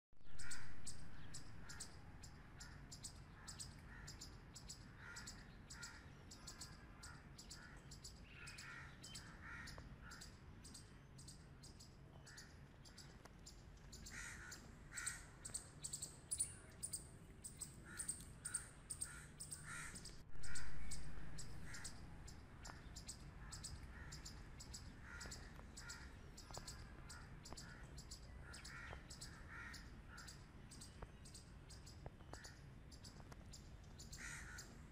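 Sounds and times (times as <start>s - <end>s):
squirrels calling: 0.2s - 34.9s.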